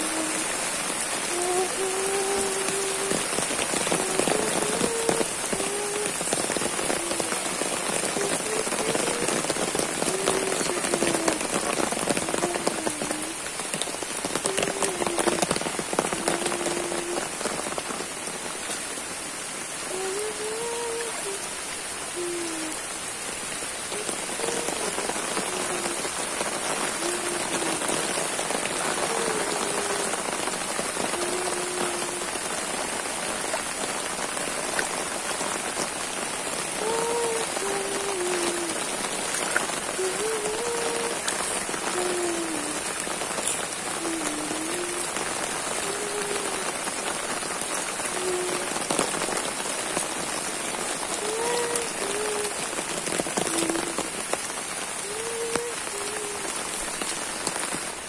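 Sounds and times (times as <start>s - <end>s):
heavy rain on standing water: 0.0s - 58.0s.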